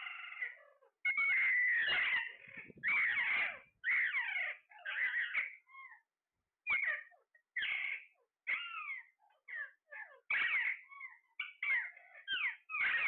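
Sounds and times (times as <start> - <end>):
parakeets calling: 0.0 - 6.0, 6.7 - 13.0.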